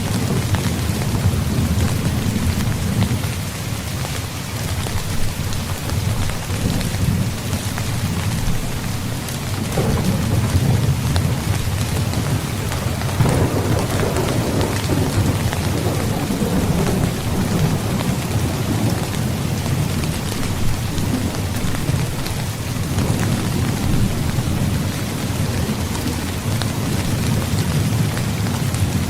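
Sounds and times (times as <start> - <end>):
low rolling thunder: 0.0 - 3.5, 5.2 - 29.0
heavy rain pouring: 0.0 - 29.0.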